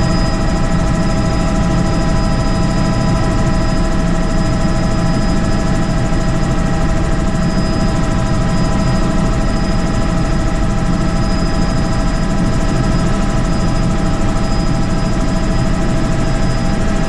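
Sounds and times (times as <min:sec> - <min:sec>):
helicopter rotor drone: 0:00.0 - 0:17.0.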